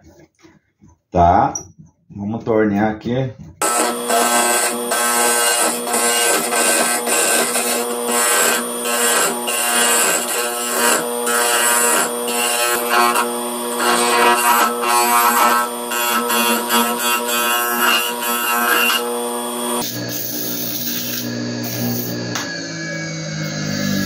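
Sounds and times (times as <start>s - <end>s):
chisel scraping spinning wood: 3.6s - 24.0s
wood lathe motor whine: 3.6s - 24.0s.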